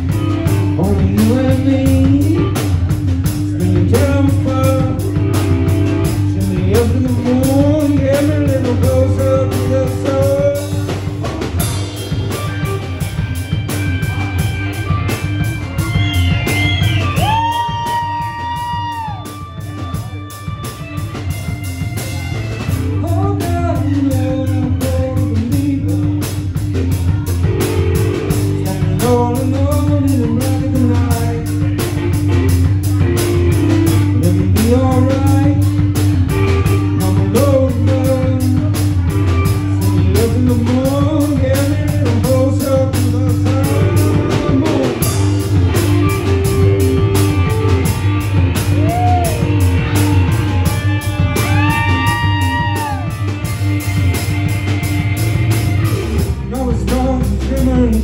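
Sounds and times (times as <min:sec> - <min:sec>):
bass line: 0:00.0 - 0:58.0
bending electric guitar lead: 0:00.0 - 0:58.0
drum beat: 0:00.0 - 0:58.0
keyboard: 0:00.0 - 0:58.0.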